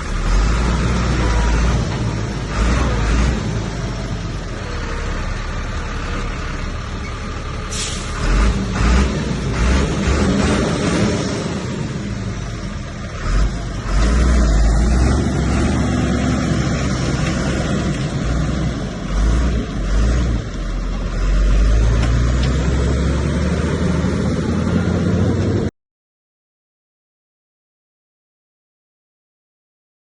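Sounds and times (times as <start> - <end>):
heavy diesel engine rumbling: 0.0 - 25.7.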